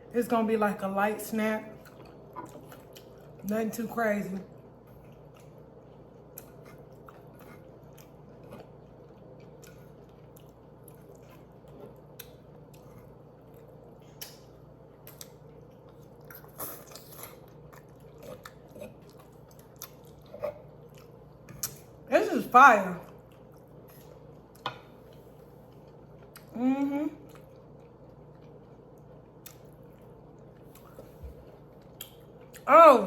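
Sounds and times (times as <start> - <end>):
person chewing food: 1.8 - 3.4, 4.5 - 22.0, 23.1 - 32.7.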